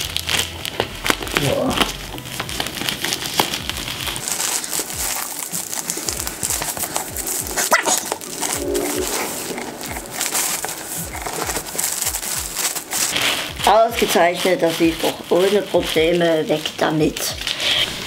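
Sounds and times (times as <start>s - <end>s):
plastic film crinkling: 0.0s - 18.0s.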